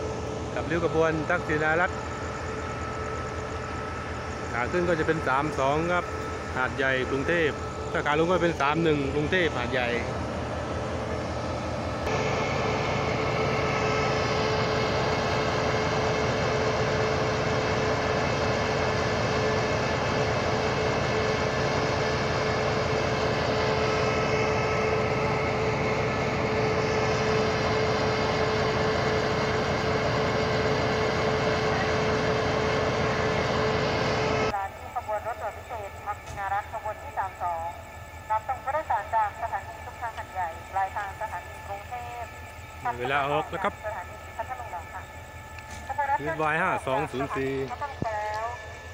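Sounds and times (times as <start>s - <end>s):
constant whine: 0.0s - 48.9s
diesel locomotive idling: 0.0s - 48.9s.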